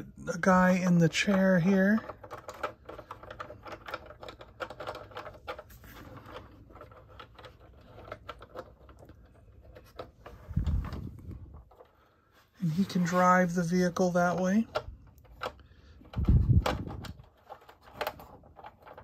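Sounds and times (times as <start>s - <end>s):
plastic toy parts clicking: 0.8s - 12.0s, 13.4s - 19.0s.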